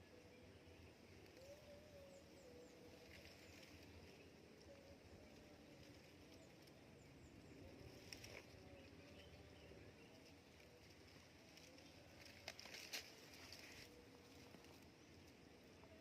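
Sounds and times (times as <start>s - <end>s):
faint outdoor ambience: 0.0s - 16.0s
small birds chirping: 0.0s - 16.0s.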